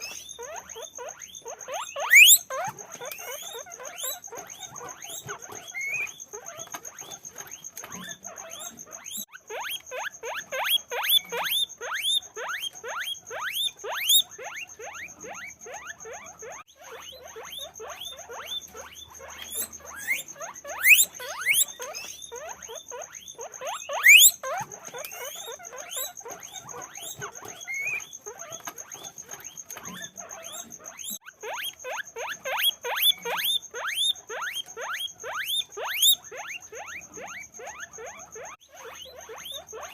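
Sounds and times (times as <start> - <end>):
guinea pig long rising squeals: 0.0 - 39.9
guinea pigs squeaking: 0.0 - 39.9.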